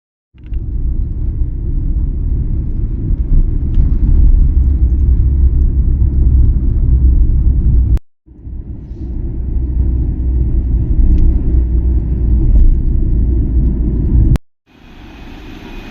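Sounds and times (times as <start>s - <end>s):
vehicle low rumble from inside: 0.4s - 15.9s.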